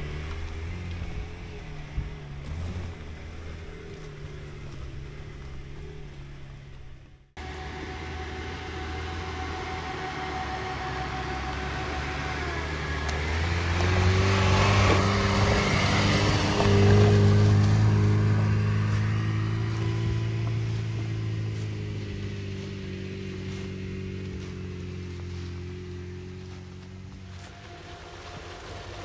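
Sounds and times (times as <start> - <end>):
car engine driving past: 0.0 - 29.0
tyres on leaves and stones: 0.0 - 29.0.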